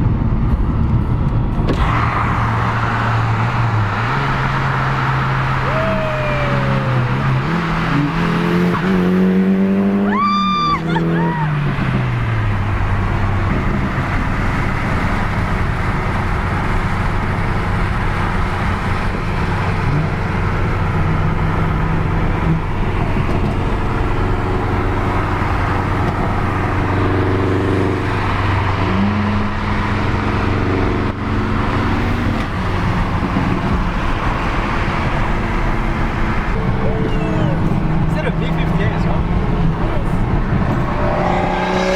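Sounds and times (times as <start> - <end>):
traffic noise: 0.0 - 41.9
car engine idling: 1.0 - 9.3, 10.1 - 41.9.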